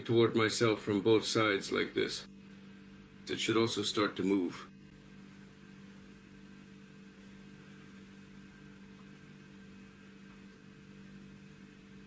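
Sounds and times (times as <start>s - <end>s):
faint low hum with hiss: 0.0s - 12.0s.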